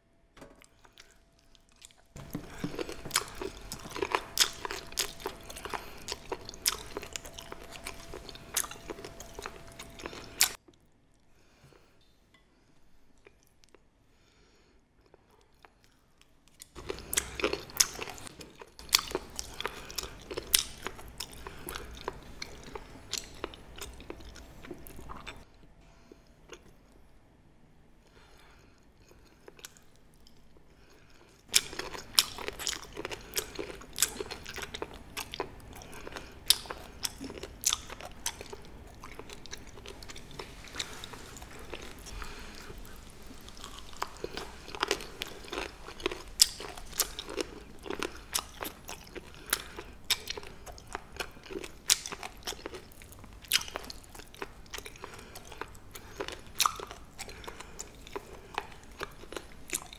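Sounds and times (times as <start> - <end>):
crisp crunching and chewing: 0.6 - 10.9, 15.0 - 25.5, 29.0 - 59.9.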